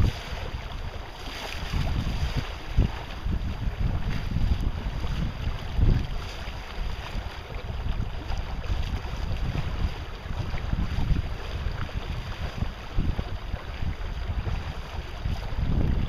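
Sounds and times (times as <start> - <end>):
hiss of wind and water: 0.0 - 16.0
wind buffeting microphone: 0.0 - 16.0.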